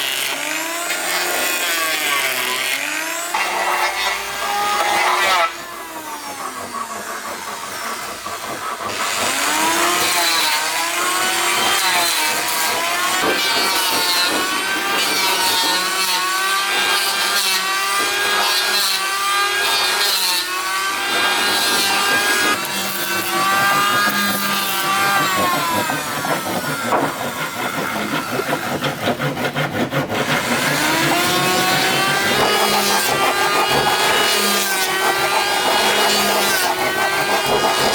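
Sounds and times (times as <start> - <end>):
saw cutting wood: 0.0 - 37.9.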